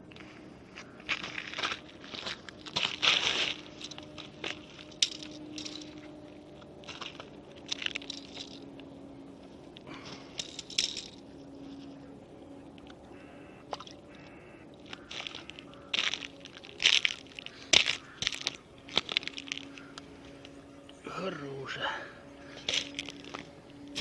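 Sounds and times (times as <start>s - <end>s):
crunching and rustling handling noises: 0.0s - 24.0s
faint steady hum: 0.0s - 24.0s.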